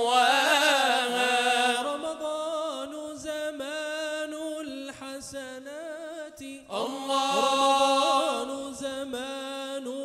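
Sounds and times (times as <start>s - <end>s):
male group singing a cappella: 0.0s - 10.0s.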